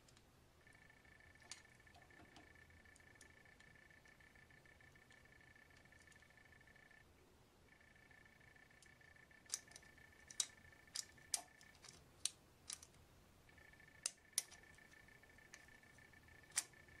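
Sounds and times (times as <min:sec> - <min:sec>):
thin high-pitched whine: 0:00.0 - 0:12.1, 0:12.7 - 0:17.0.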